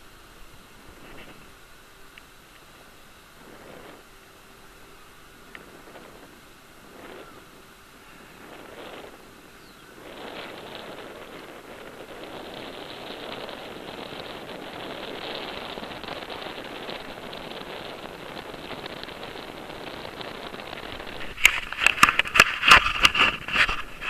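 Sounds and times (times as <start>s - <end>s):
wind rushing over microphone: 0.0s - 24.0s
camera rubbing against clothing: 0.7s - 1.6s, 3.3s - 4.4s, 5.1s - 24.0s.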